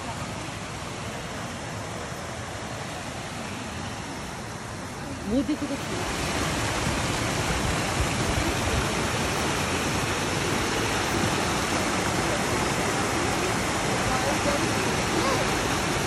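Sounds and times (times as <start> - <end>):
waterfall cascading into a pond: 0.0 - 16.0.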